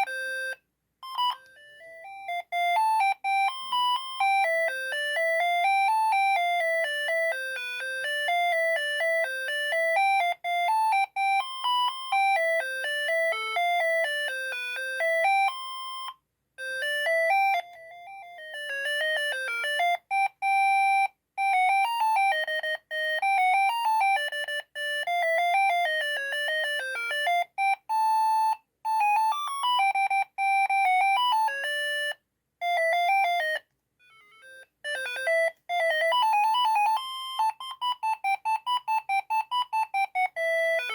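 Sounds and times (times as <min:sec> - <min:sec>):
beeping phone ringtone melodies: 0:00.0 - 0:40.9.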